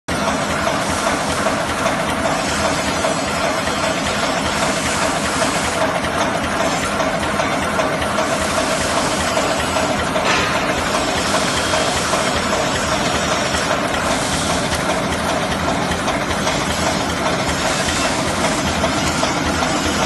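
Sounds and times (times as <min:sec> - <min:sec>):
constant machine hum: 0:00.1 - 0:20.0
machine clatter and hiss: 0:00.1 - 0:20.0.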